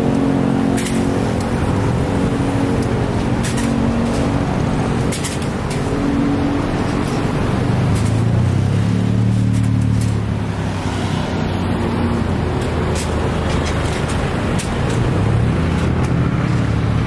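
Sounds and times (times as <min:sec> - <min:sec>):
cars passing slowly: 0:00.0 - 0:17.0
motorcycle engine: 0:00.0 - 0:17.0
road hum: 0:00.0 - 0:17.0.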